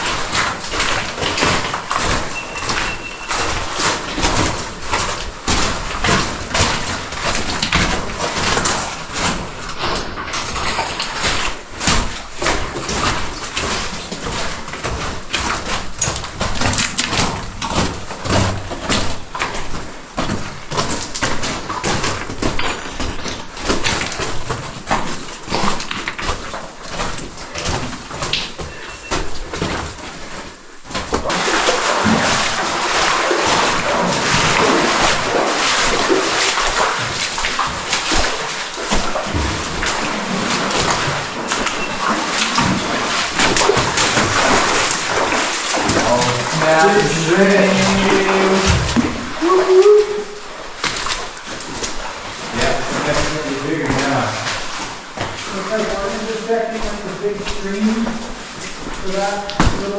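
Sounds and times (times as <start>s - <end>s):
footsteps wading through water: 0.0s - 59.9s
knocks and splashes: 0.0s - 59.9s
rush of flowing water: 0.0s - 59.9s.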